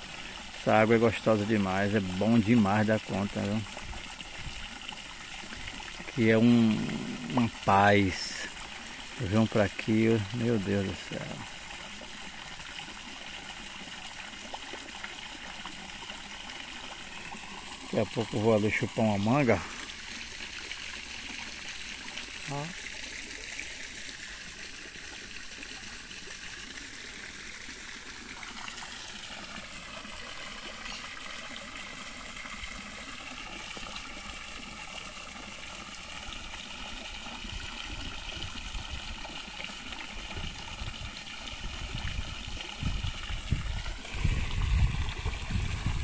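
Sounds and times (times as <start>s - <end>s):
water splashing into pond: 0.0s - 46.0s.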